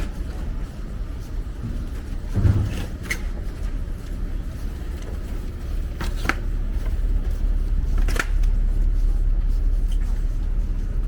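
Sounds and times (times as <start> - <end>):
street noise low rumble: 0.0 - 11.0.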